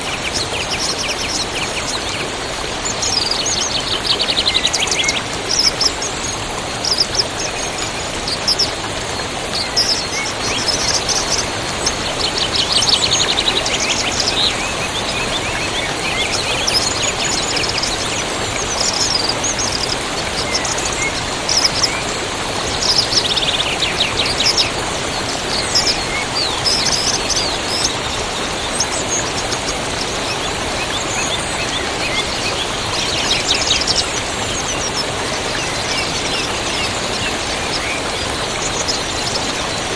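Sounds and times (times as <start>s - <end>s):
river flowing: 0.0s - 39.9s
small birds chirping: 0.0s - 39.9s.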